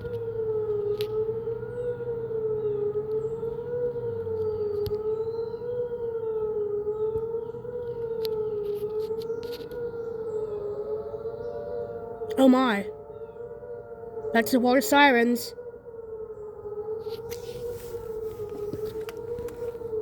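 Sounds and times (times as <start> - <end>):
electronic fire siren wailing: 0.0 - 20.0.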